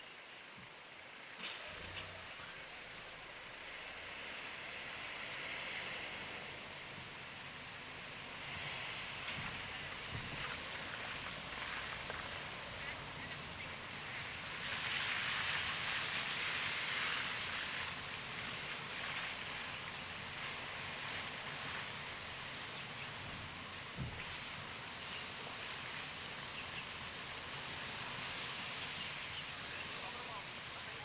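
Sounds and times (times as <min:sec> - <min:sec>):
tyres hissing on wet road: 0:00.0 - 0:31.0
heavy rain: 0:01.4 - 0:31.0.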